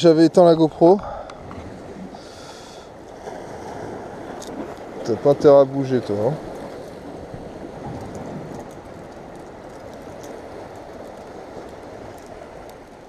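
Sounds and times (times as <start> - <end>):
sea surf on rocky shore: 0.0 - 13.0.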